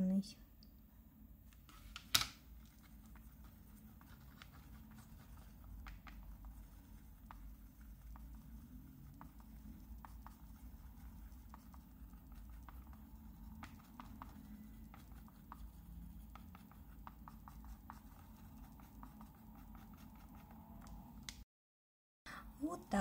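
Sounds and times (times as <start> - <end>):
low steady hum: 0.0 - 21.4
stick stirring paint: 1.8 - 21.0.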